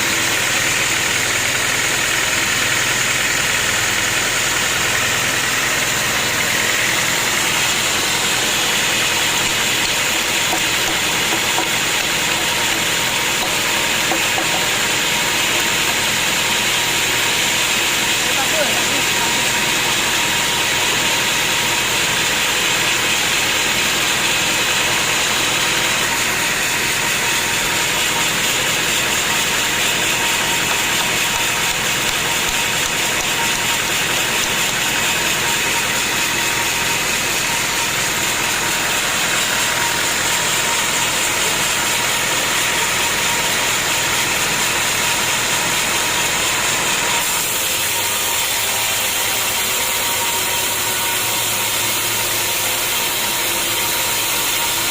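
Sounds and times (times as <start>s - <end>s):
sawmill machinery running: 0.0s - 54.9s.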